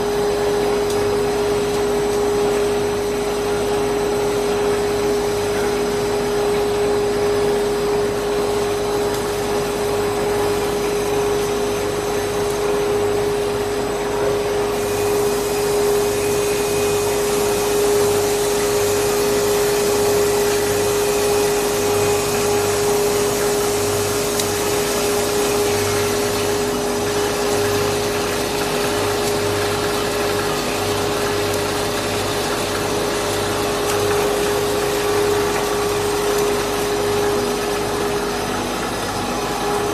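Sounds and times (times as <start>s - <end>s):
machine rushing hum with whine: 0.0s - 39.9s.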